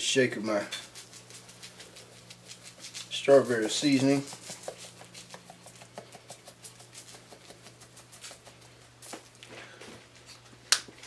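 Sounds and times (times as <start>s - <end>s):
seasoning shaker rattling: 0.4s - 9.3s.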